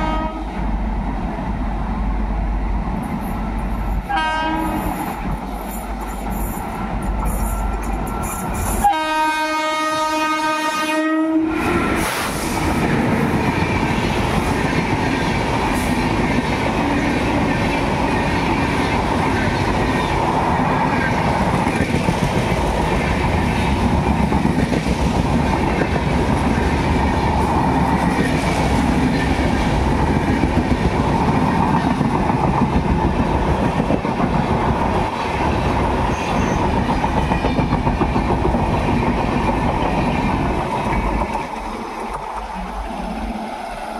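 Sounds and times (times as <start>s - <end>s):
train coaches rumbling past: 0.0s - 43.9s.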